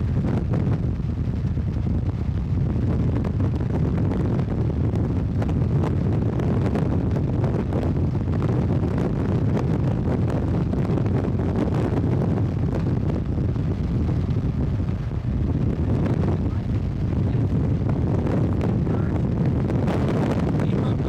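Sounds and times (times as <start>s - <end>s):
road and wind rumble: 0.0s - 21.0s.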